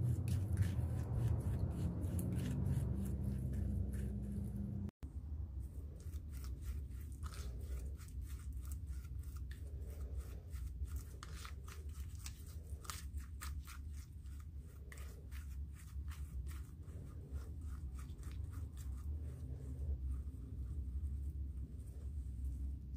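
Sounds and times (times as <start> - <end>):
palette knife scraping paint: 0.0 - 5.0, 5.6 - 22.8
low steady hum: 0.0 - 22.9.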